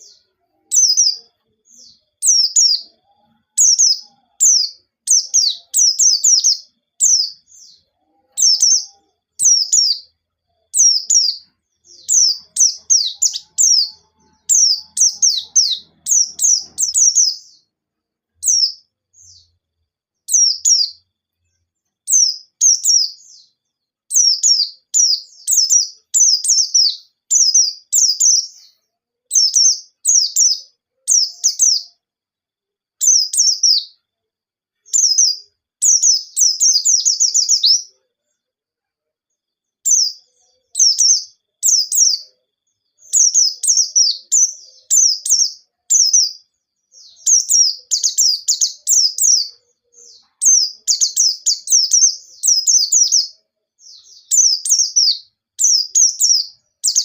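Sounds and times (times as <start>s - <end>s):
bird singing high chirps: 0.0s - 32.0s, 33.0s - 34.1s, 34.8s - 38.0s, 39.6s - 57.0s.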